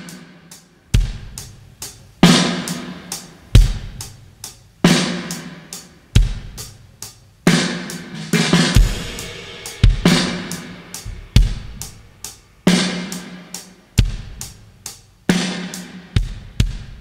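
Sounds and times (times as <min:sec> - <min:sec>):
drum kit slow beat: 0:00.0 - 0:17.0.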